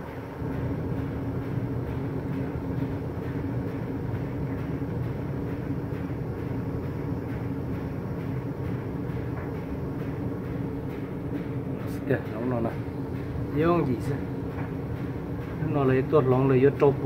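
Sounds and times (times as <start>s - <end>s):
gas furnace humming: 0.0s - 17.0s.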